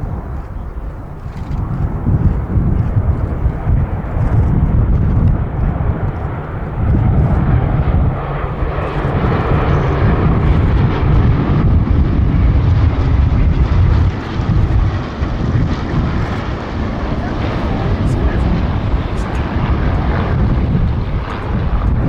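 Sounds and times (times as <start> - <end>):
propeller aircraft engines rumbling: 0.0 - 22.0.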